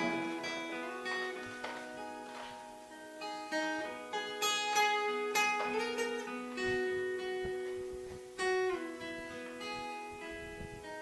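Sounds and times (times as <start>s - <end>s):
fingerpicked acoustic guitar: 0.0s - 11.0s.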